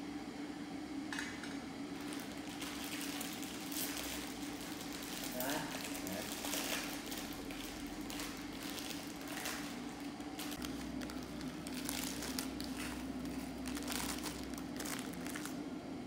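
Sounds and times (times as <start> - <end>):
steady low hum: 0.0 - 16.0
crinkling and rustling: 2.0 - 15.6.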